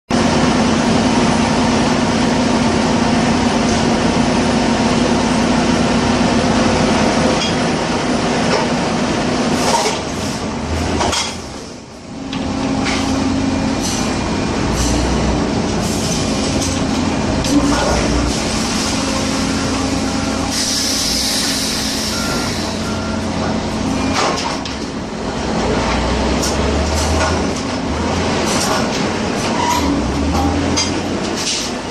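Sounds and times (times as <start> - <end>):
machinery drone: 0.1 - 31.9.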